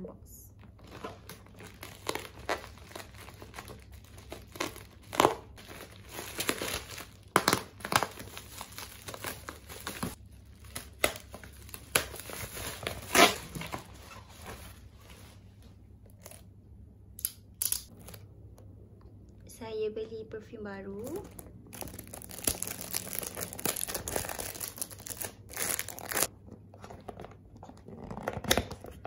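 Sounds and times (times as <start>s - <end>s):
plastic and bubble wrap crinkling: 0.6s - 16.4s, 21.0s - 29.0s.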